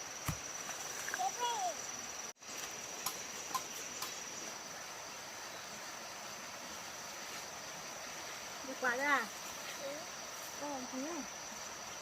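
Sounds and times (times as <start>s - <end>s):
insect drone: 0.0s - 12.0s.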